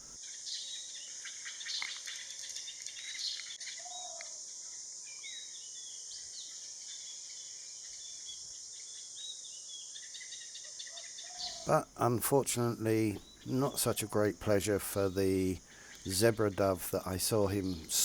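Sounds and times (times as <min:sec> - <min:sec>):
high insect drone: 0:00.0 - 0:18.0
small birds chirping: 0:00.0 - 0:18.0.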